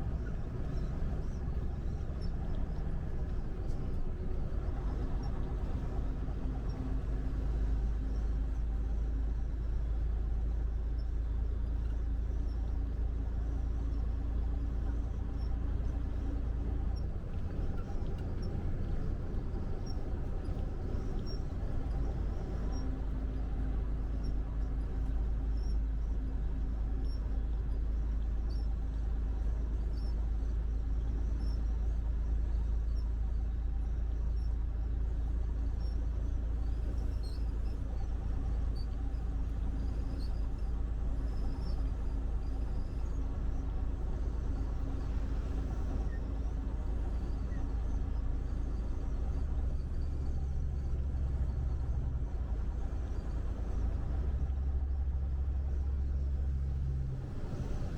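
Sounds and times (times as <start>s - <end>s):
faint steady hum: 0.0s - 57.9s
truck engine and road rumble: 0.0s - 57.9s.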